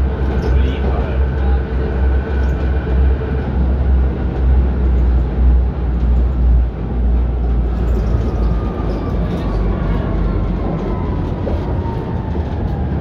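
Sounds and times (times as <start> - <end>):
tram rumbling on track: 0.0 - 13.0
tram rushing running noise: 0.0 - 13.0.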